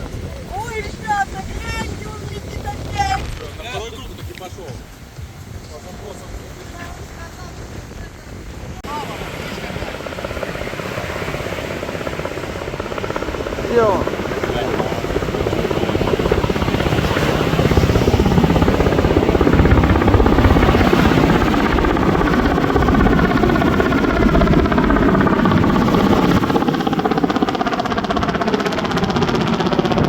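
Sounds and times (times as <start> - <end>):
helicopter rotor chopping: 0.0 - 30.0.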